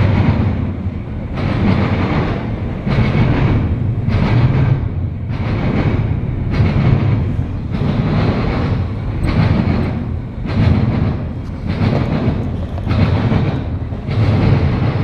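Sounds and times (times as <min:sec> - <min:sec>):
freight cars rolling on rails: 0:00.0 - 0:15.0.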